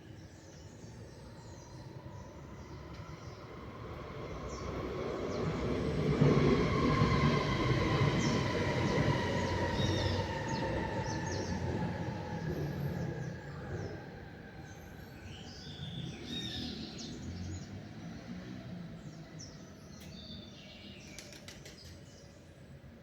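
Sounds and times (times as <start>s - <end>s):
train passing rumble: 0.1s - 23.0s.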